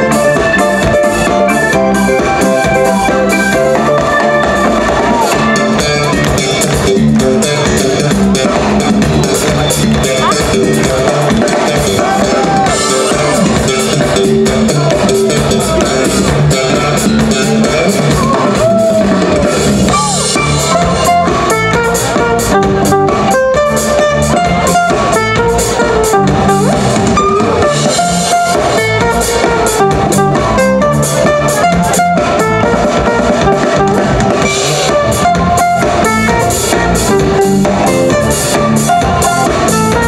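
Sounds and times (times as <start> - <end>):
live folk fusion band playing: 0.0 - 40.0.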